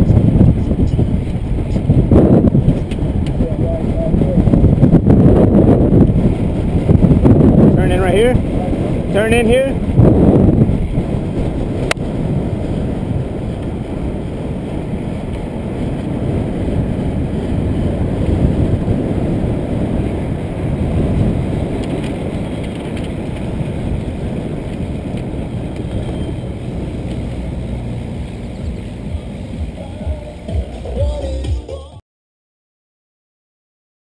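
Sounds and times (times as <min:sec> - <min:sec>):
wind rushing over microphone: 0:00.0 - 0:30.1.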